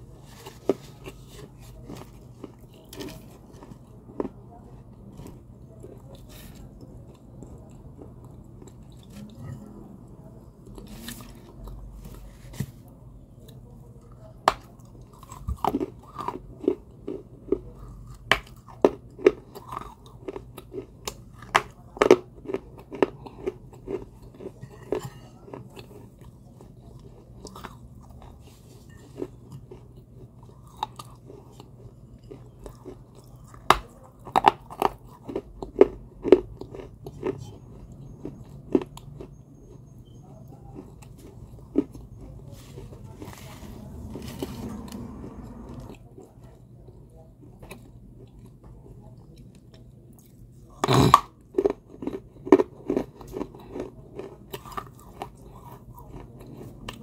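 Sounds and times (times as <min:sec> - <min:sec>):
crunching baked clay: 0:00.0 - 0:09.4, 0:14.4 - 0:57.0
soft chewing: 0:00.0 - 0:57.0.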